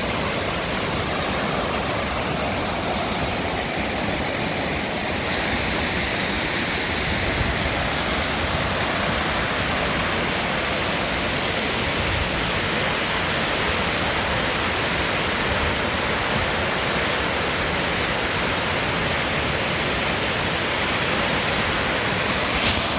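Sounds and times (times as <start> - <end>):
waterfall roaring: 0.0 - 22.9.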